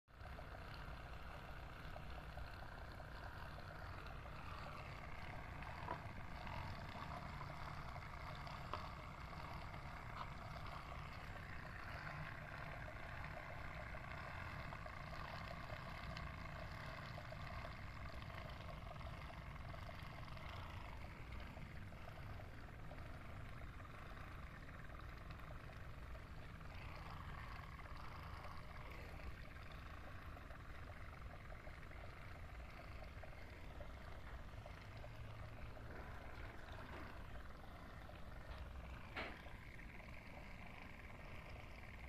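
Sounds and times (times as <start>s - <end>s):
water pump humming: 0.1s - 42.0s.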